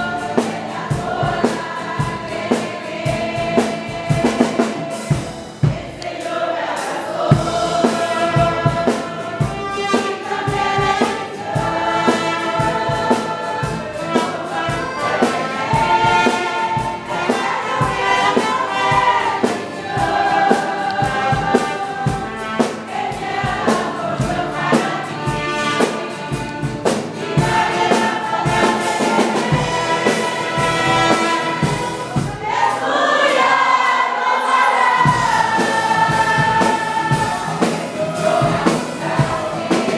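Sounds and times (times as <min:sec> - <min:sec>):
band playing: 0:00.0 - 0:06.2, 0:06.9 - 0:33.6, 0:34.5 - 0:39.9
steady drum beat: 0:00.0 - 0:33.6, 0:34.8 - 0:39.9
group singing worship song: 0:00.0 - 0:39.9.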